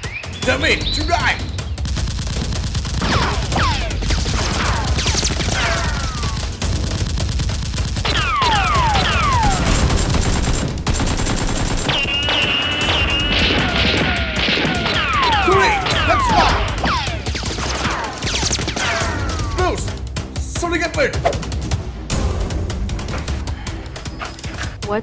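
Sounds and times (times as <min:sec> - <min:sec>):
rapid gunfire sound effects: 0:00.0 - 0:21.6
background music: 0:00.0 - 0:25.0.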